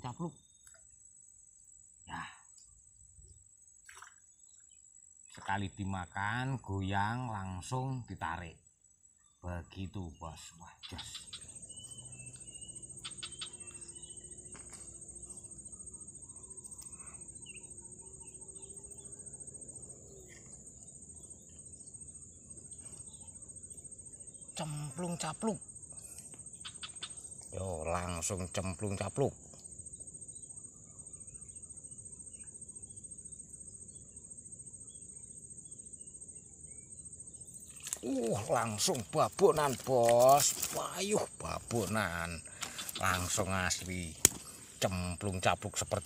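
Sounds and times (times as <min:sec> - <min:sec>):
faint bird chirps: 0:00.0 - 0:19.4, 0:20.0 - 0:40.0
high-pitched insect drone: 0:00.0 - 0:46.0.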